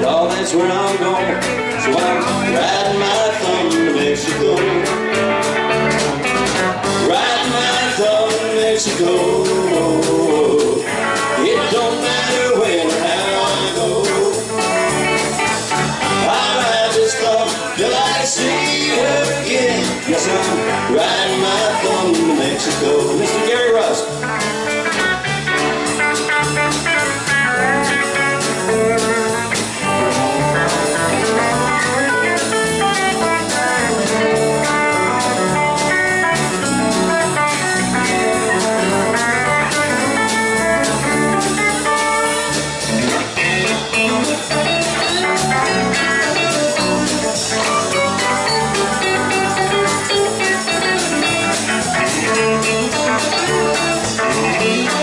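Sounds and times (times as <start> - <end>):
bass guitar: 0.0 - 55.0
drum kit steady beat: 0.0 - 55.0
electric guitar picking quick runs: 0.0 - 55.0
rhythm guitar: 0.0 - 55.0.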